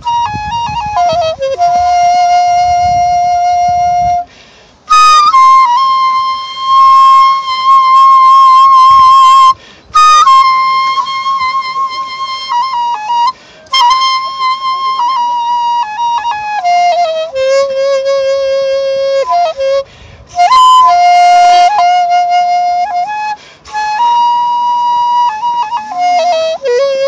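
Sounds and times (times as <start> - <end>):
bamboo flute melody: 0.0 - 27.0.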